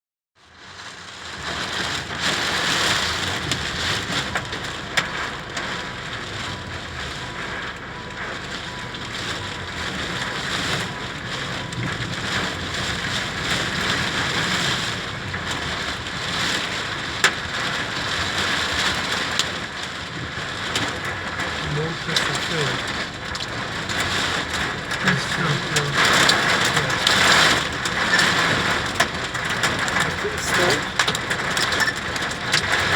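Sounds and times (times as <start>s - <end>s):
heavy rain falling: 0.4s - 32.9s.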